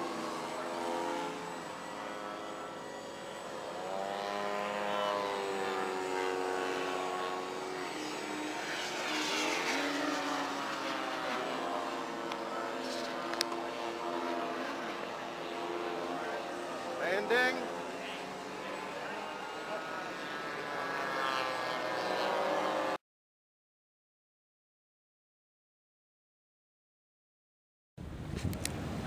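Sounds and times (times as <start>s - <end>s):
model airplane engine droning: 0.0s - 23.0s, 28.0s - 29.0s.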